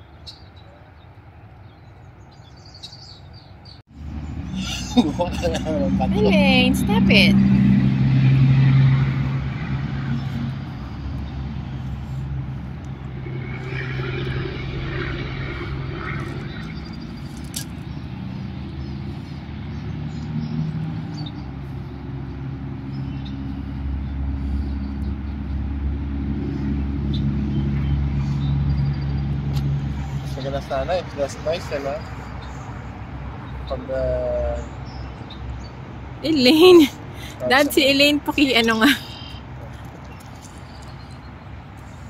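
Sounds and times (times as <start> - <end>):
passing car engines humming: 3.9 - 42.0.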